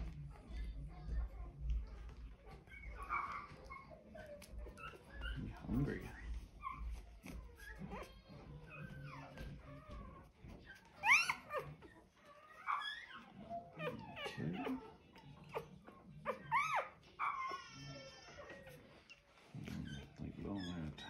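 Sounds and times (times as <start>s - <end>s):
puppy crying: 1.8s - 21.0s.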